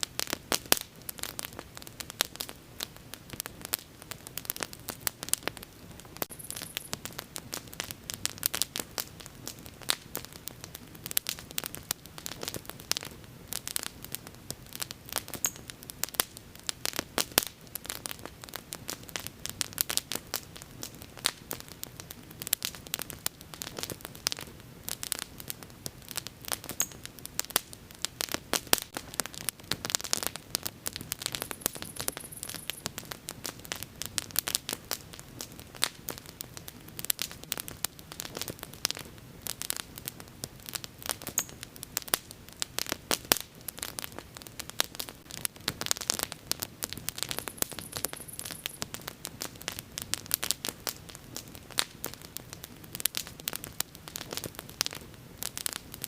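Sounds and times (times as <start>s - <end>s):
bonfire crackling and popping: 0.0s - 56.0s
faint hiss of flames: 0.0s - 56.0s.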